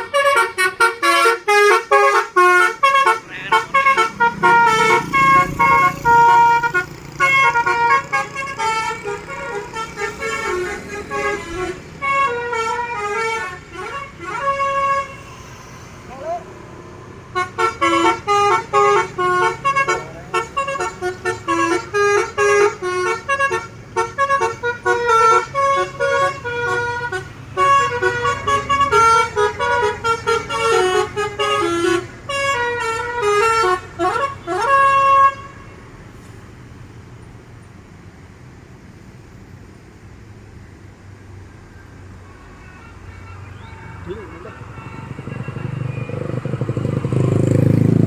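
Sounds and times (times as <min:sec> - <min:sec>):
musical air horn tune: 0:00.0 - 0:15.9, 0:17.3 - 0:35.8, 0:42.2 - 0:46.6.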